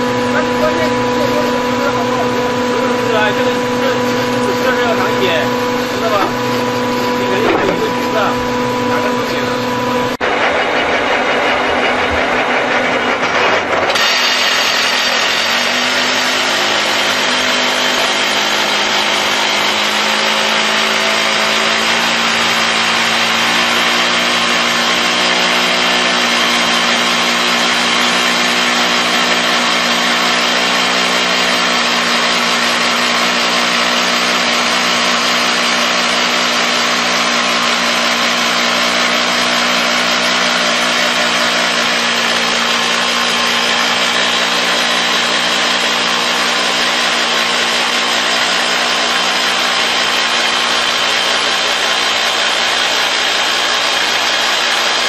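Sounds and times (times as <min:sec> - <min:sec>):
rock drill drilling: 0:00.0 - 0:55.0.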